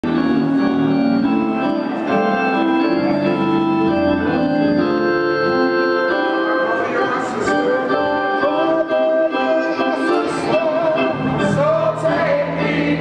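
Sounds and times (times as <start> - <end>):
organ playing sustained chords: 0.0 - 13.0.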